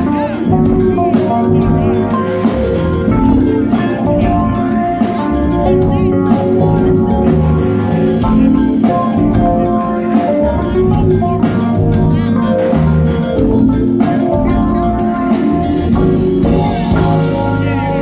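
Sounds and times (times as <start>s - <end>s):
drum kit beat: 0.0s - 18.0s
guitar notes: 0.0s - 18.0s.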